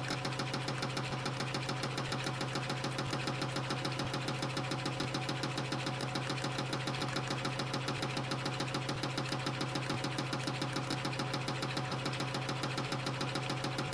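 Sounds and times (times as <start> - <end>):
motor hum: 0.0 - 13.9.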